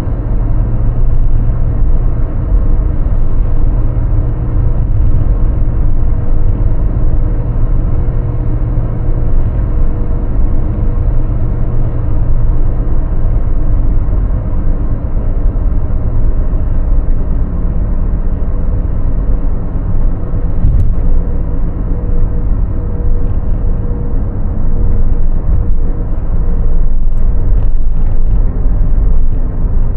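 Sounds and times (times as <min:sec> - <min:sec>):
car engine and road noise: 0:00.0 - 0:29.9.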